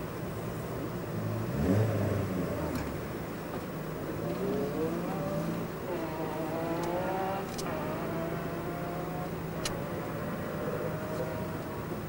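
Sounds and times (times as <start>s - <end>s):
car engine at low revs: 0.0s - 12.0s.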